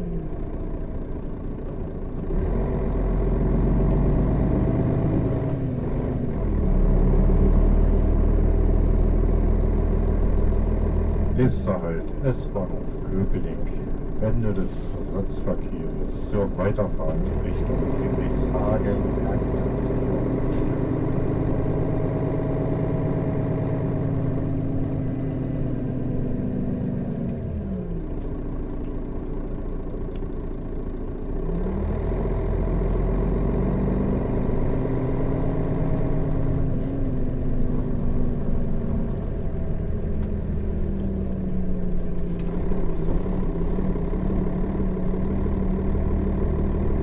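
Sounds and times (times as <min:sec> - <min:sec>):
bus engine: 0:00.0 - 0:47.0.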